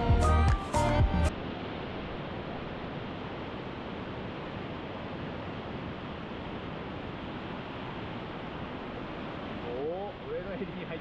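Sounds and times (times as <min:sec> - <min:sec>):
whitewater river rushing: 0:00.0 - 0:11.0.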